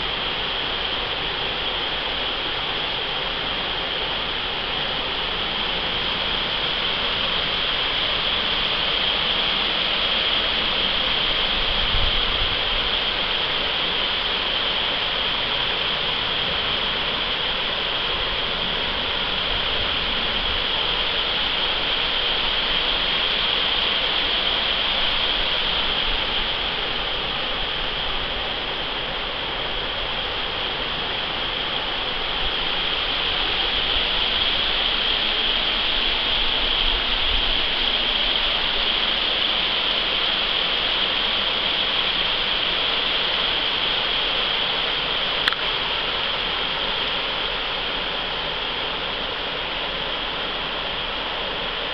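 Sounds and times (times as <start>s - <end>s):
creek water rushing over rocks: 0.0s - 51.9s.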